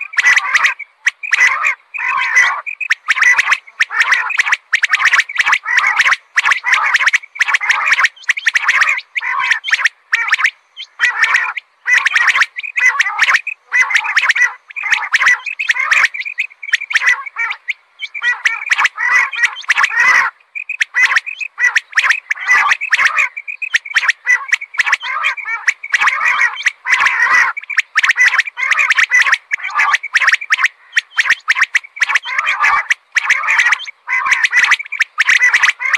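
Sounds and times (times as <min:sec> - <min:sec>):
quail calling: 0:00.0 - 0:35.9.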